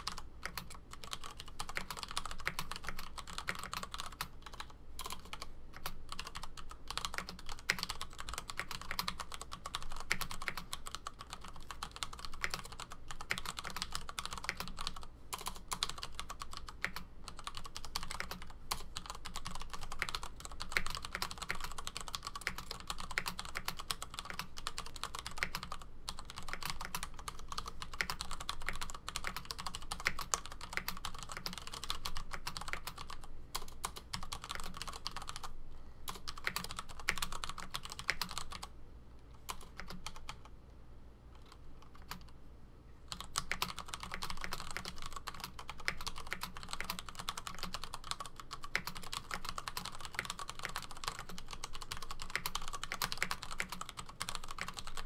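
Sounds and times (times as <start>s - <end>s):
mechanical keyboard typing: 0.0s - 38.7s, 39.5s - 40.5s, 41.4s - 42.3s, 43.1s - 55.0s.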